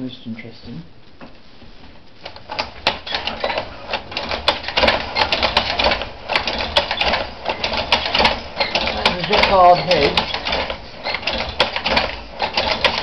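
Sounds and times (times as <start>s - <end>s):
braid machine clattering: 2.2s - 13.0s.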